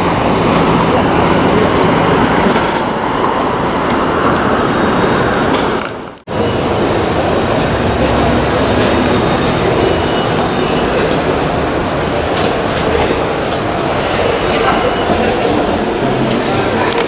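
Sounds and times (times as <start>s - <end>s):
subway train rumbling and rattling: 0.0s - 17.0s.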